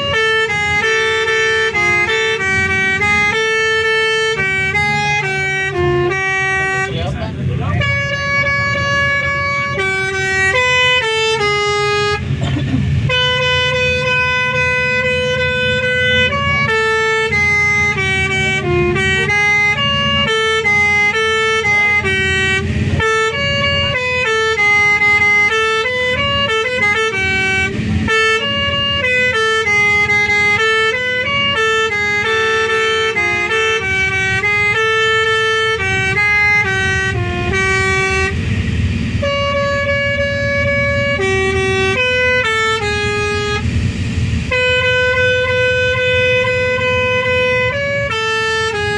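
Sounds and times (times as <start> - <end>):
low engine rumble: 0.0 - 48.9
multi-tone bus air horn tune: 0.0 - 48.9.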